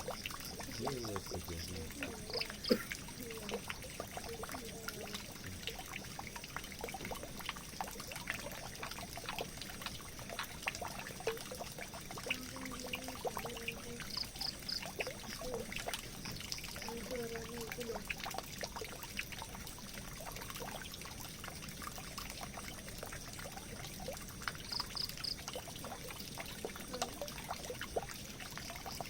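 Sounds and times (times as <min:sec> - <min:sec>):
water pouring into a drain: 0:00.0 - 0:29.0.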